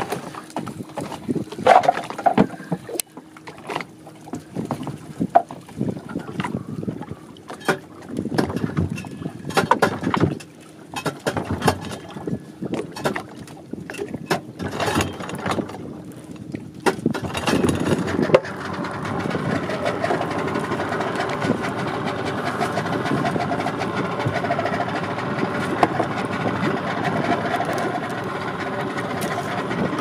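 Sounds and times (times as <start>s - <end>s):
wind on microphone: 0.0s - 3.0s, 4.3s - 10.4s, 11.2s - 30.0s
outboard motor running: 0.0s - 30.0s.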